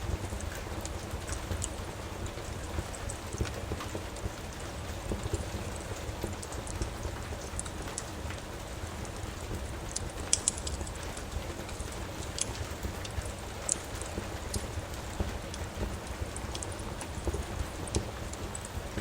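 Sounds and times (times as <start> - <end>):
burning logs popping: 0.0 - 19.0
steady rain: 0.0 - 19.0
wood fire crackling: 0.0 - 19.0.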